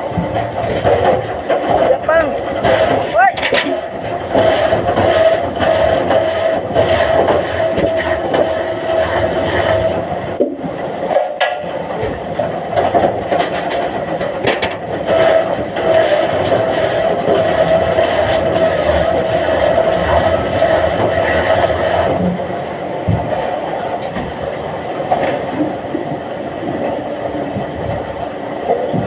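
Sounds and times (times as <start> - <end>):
heavy machinery whine and rumble: 0.0 - 29.0.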